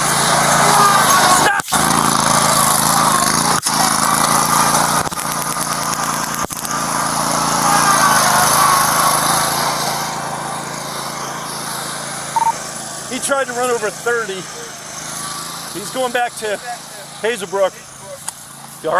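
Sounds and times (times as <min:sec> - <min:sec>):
lawn mower engine running: 0:00.0 - 0:18.9.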